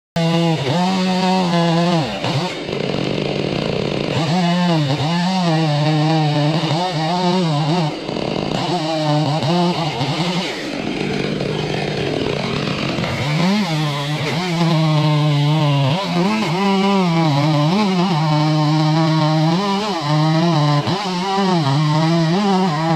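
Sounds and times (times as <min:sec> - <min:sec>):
chainsaw engine at high revs: 0:00.2 - 0:22.9.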